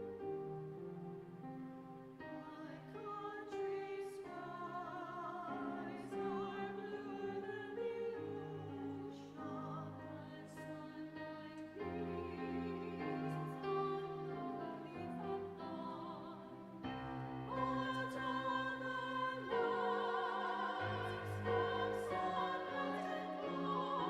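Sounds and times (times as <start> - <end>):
women's vocal ensemble singing: 2.2 - 24.0.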